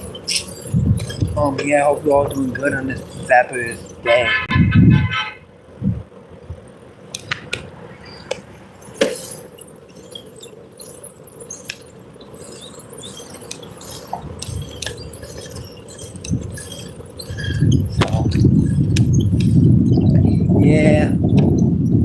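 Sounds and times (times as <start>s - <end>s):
bicycle parts rattling: 0.0s - 22.0s
faint steady hum: 0.0s - 22.0s.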